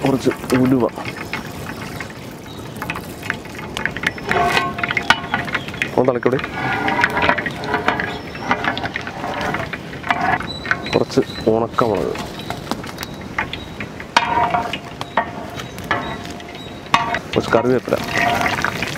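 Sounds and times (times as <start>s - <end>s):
metal ladle stirring: 0.0s - 18.9s
seeds sizzling in hot oil: 0.0s - 18.9s.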